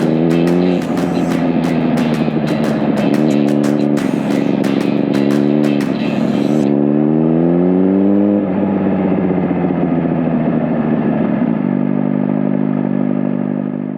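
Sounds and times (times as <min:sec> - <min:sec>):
motorcycle engine accelerating: 0:00.0 - 0:13.9.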